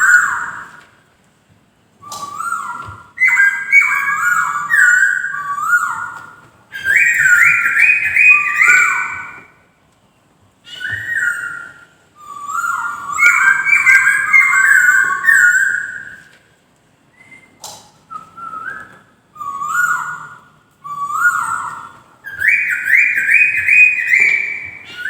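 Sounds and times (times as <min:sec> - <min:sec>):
bird singing whistled phrases: 0:00.0 - 0:00.8, 0:02.0 - 0:09.5, 0:10.7 - 0:16.3, 0:17.2 - 0:25.0.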